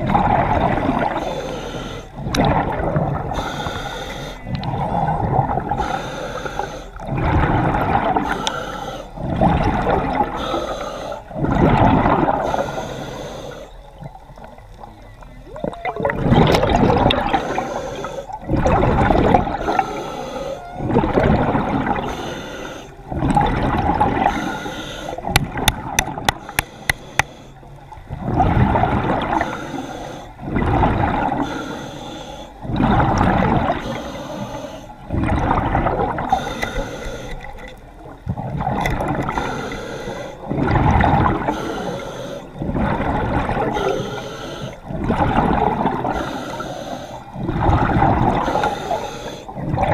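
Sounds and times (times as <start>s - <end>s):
diver breathing underwater: 0.3s - 13.9s, 16.2s - 37.8s, 38.7s - 49.9s.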